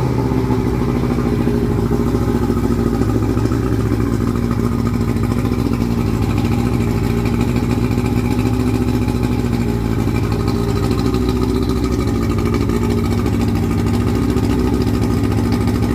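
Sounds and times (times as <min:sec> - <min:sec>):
outboard motor running: 0:00.0 - 0:15.9.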